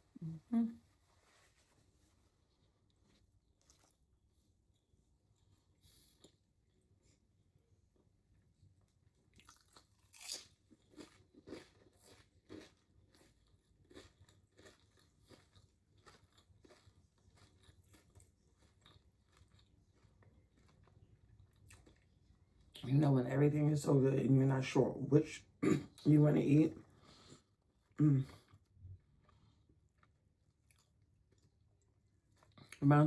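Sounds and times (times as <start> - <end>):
chewing and biting sandwich: 2.1 - 22.8, 26.9 - 32.8.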